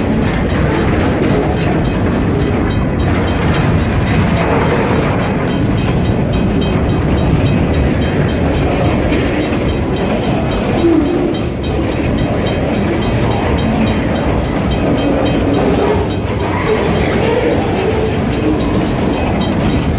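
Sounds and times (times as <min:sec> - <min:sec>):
freight train wheels rumbling: 0:00.0 - 0:19.9.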